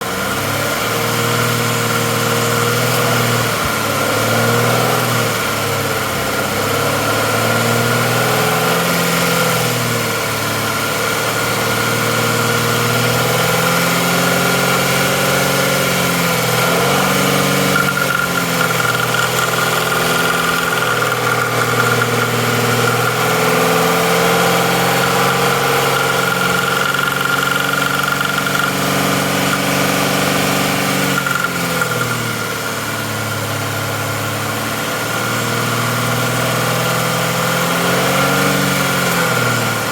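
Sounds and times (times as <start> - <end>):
car engine idling with whine: 0.0 - 39.9.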